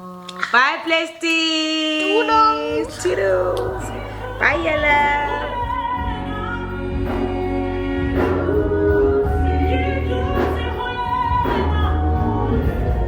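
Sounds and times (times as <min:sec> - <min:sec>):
person singing: 0:02.0 - 0:13.0
steady bass line: 0:02.4 - 0:13.0.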